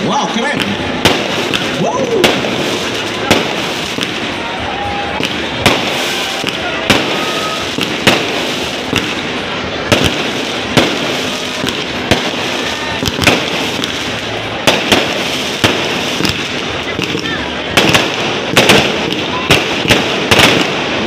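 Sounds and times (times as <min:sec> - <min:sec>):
fireworks bangs: 0:00.0 - 0:21.0
noisy background: 0:00.0 - 0:21.0.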